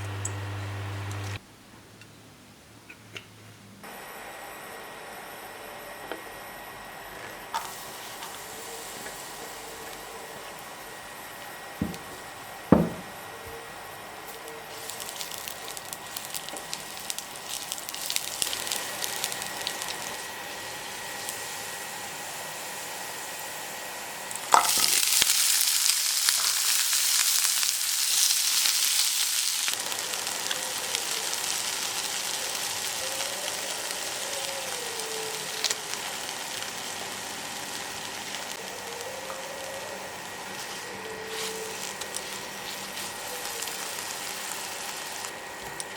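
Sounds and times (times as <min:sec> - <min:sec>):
food sizzling in hot oil: 0:00.0 - 0:01.4, 0:07.5 - 0:13.2, 0:13.8 - 0:45.9.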